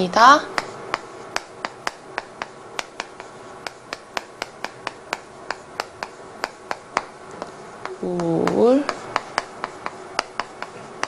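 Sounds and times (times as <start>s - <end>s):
chalk tapping on a chalkboard: 0.4s - 11.0s.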